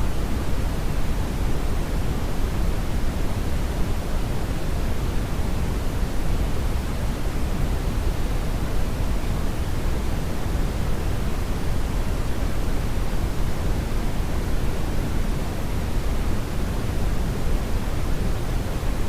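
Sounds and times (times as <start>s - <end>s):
brownian noise rumbling hiss: 0.0s - 19.0s.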